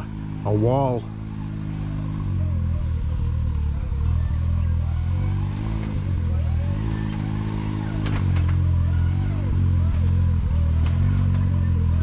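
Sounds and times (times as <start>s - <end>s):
utility vehicle engine revving: 0.0s - 12.0s.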